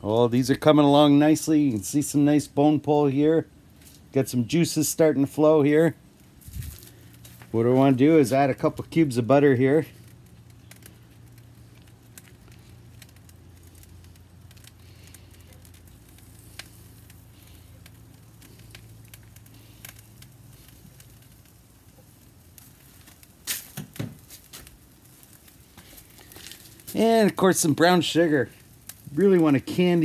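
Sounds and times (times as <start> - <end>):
grill crackling and sizzling: 0.0 - 30.0.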